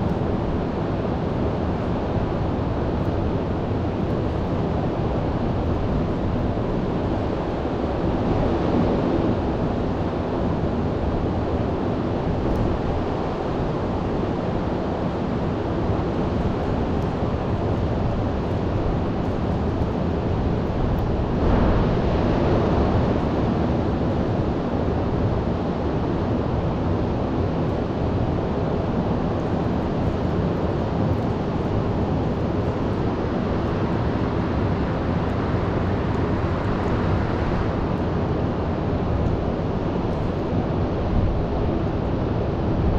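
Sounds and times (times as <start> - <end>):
wind rumbling on microphone: 0.0 - 42.9
heavy ocean surf roaring: 0.2 - 42.9.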